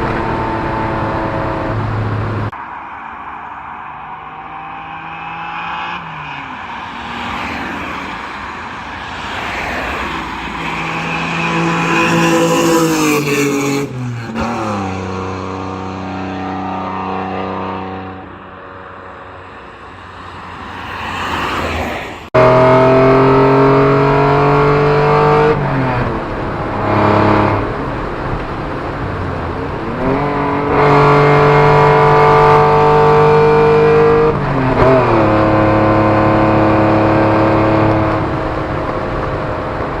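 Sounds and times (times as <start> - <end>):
car engine accelerating hard: 0.0 - 40.0.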